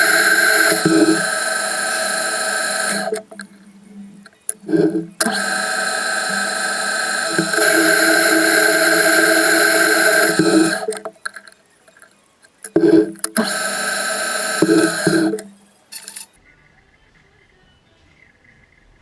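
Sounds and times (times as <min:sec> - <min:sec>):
metal lathe running: 0:00.0 - 0:12.0, 0:12.6 - 0:16.2.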